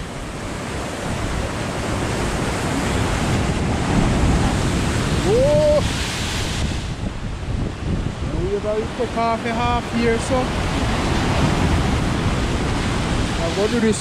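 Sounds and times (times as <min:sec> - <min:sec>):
waves breaking over rocks: 0:00.0 - 0:14.0
wind buffeting microphone: 0:00.0 - 0:14.0.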